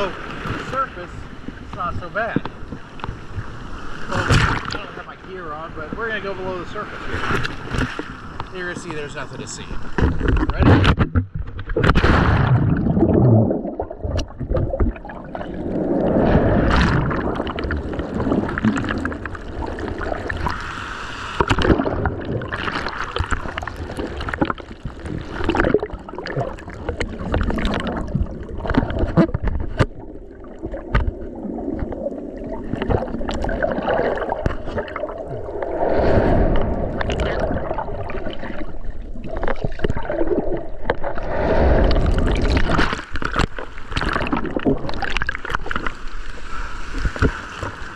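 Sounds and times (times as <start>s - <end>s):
muffled underwater surf churning: 0.0s - 47.9s.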